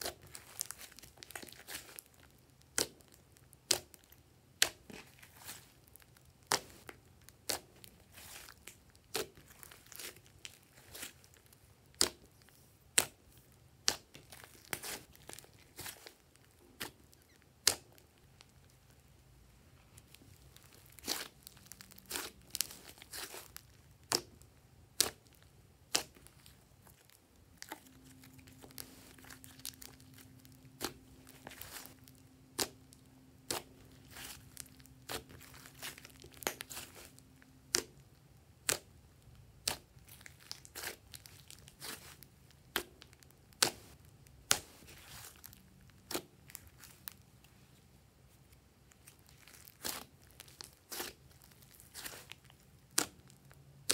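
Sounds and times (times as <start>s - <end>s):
slime popping and crackling: 0.0s - 18.1s, 20.1s - 47.2s, 48.9s - 53.9s.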